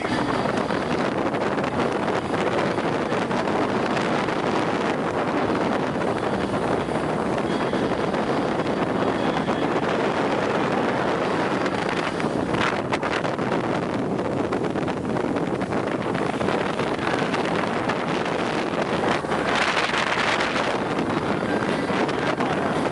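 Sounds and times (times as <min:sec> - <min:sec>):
motorboat engine and water rush: 0:00.0 - 0:22.9
wind buffeting microphone: 0:00.0 - 0:22.9.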